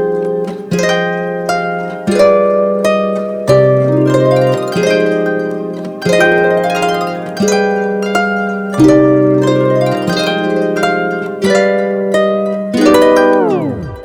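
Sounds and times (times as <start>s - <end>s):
harp-like plucked melody: 0.0s - 14.0s.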